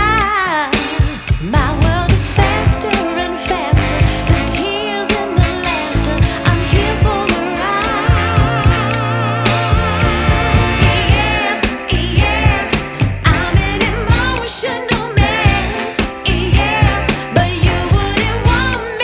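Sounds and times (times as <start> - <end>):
song with sung vocal over beat: 0.0 - 19.0.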